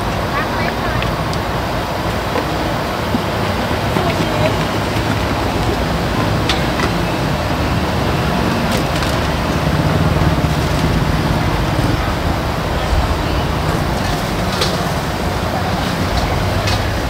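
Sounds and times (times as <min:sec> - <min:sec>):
busy street market noise: 0:00.0 - 0:17.0.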